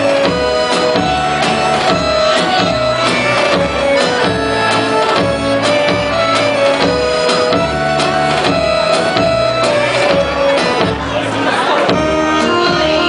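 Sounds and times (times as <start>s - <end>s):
steady drum beat: 0.0s - 13.0s
winding folk melody: 0.0s - 13.0s.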